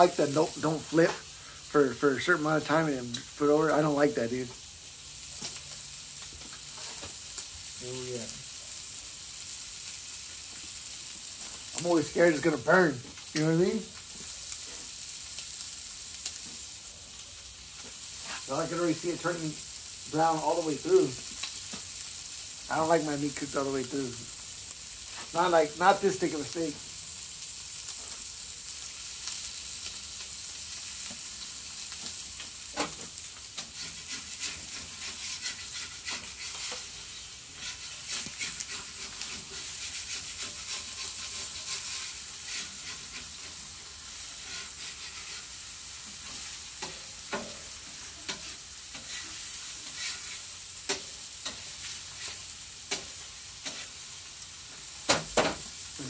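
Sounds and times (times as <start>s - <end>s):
steaks sizzling on griddle: 0.0s - 56.0s.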